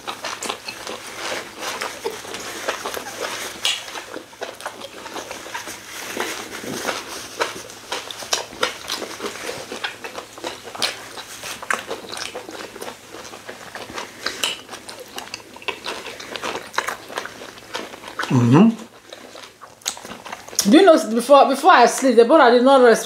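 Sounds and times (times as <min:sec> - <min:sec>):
wet chewing and mouth smacks: 0:00.0 - 0:21.2.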